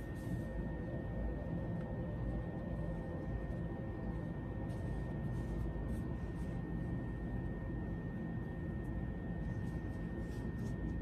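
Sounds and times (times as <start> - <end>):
faint high whine: 0.0 - 11.0
low background rumble: 0.1 - 11.0.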